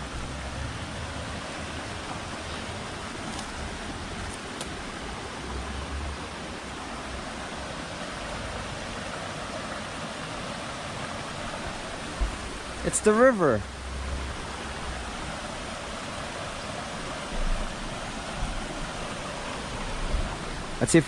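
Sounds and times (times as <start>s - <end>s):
river rushing over rapids: 0.0s - 21.0s.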